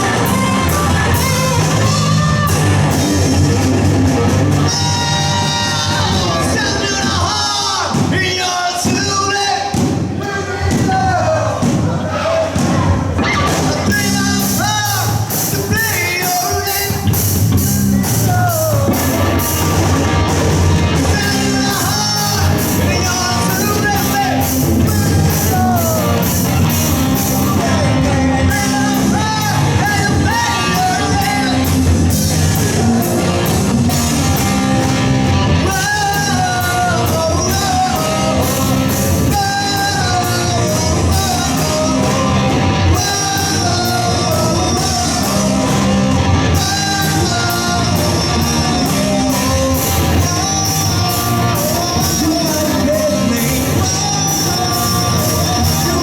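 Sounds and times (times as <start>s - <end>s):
live rock band playing: 0.0s - 8.3s, 12.7s - 56.0s
person singing: 0.0s - 56.0s.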